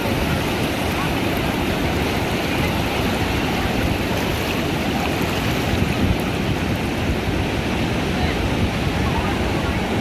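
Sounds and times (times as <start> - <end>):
ocean surf washing onto beach: 0.0 - 10.0
wind on the microphone: 0.0 - 10.0.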